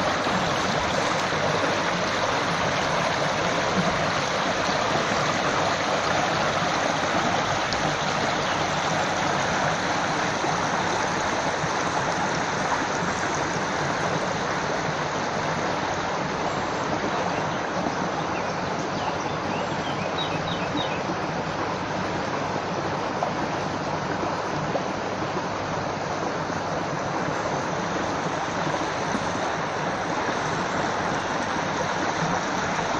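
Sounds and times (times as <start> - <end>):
running water: 0.0 - 32.9.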